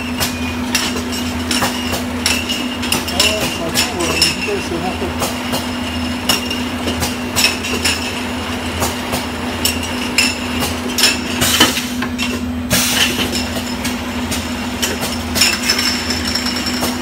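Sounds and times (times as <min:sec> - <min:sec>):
glass bottles clinking: 0:00.2 - 0:14.0, 0:14.8 - 0:17.0.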